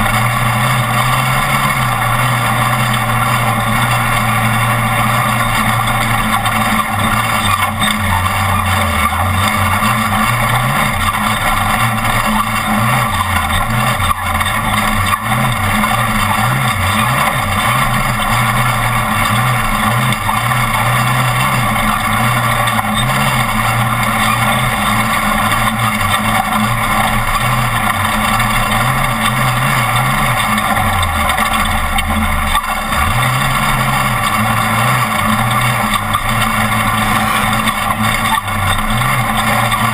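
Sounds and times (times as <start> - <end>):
race truck engine revving: 0.0 - 39.9
rough terrain noise: 0.0 - 39.9.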